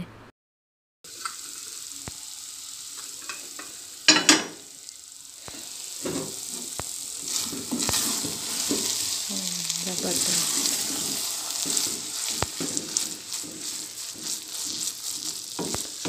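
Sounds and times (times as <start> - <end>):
milk sizzling in a pot: 1.1 - 16.0.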